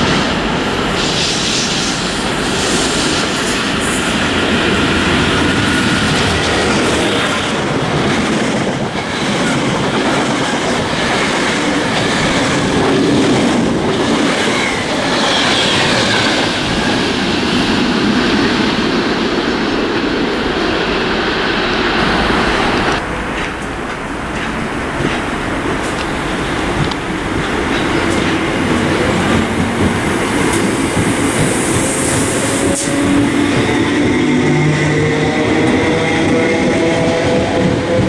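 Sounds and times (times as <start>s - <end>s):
train running past: 0.0s - 38.0s.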